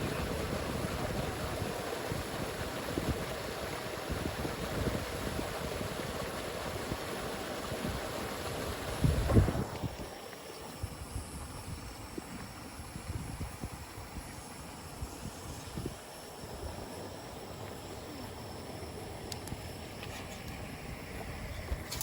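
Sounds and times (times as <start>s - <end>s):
low buffeting on microphone: 0.0s - 22.0s.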